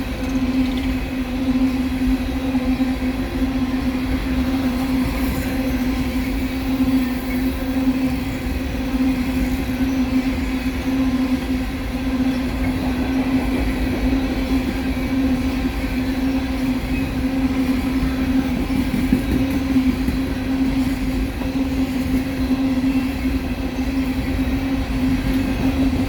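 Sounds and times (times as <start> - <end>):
train cars rumbling on rails: 0.0 - 26.0.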